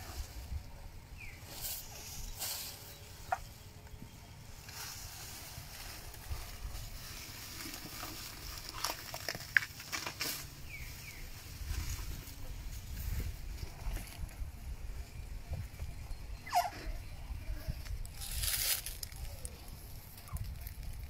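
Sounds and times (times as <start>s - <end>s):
elephant chewing grass: 0.0s - 21.0s.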